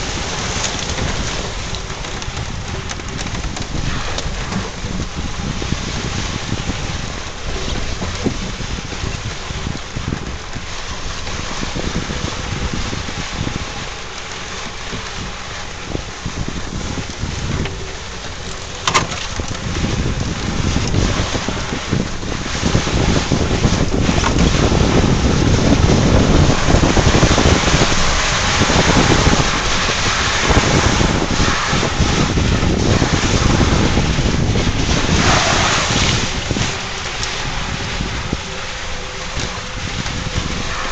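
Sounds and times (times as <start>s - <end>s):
atv engine running: 0.0s - 40.9s
water churning: 0.0s - 40.9s
wind buffeting microphone: 0.0s - 40.9s.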